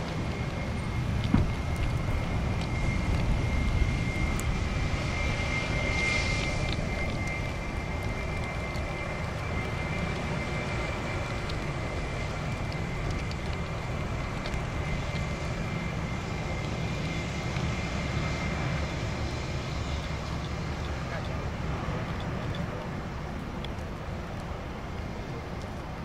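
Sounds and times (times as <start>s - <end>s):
jet engine whine: 0.0s - 26.0s
jet engines rumbling: 0.0s - 26.0s.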